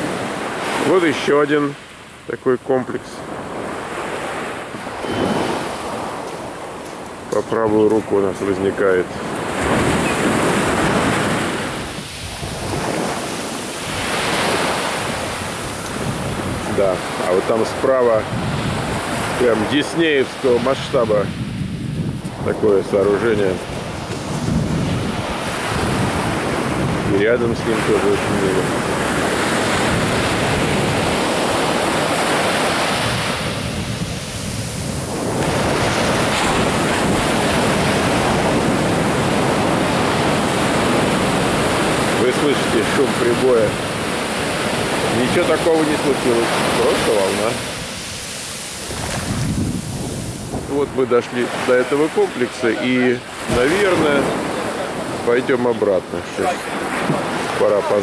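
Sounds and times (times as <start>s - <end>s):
ocean surf breaking on beach: 0.0s - 58.0s
wind on microphone: 3.2s - 8.2s, 8.9s - 55.3s.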